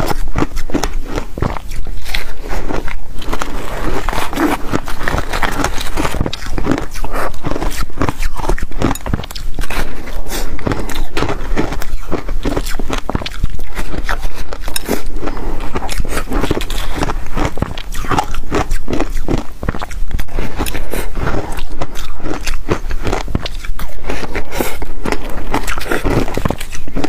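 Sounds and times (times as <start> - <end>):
chewing crunchy ice: 0.0 - 27.0.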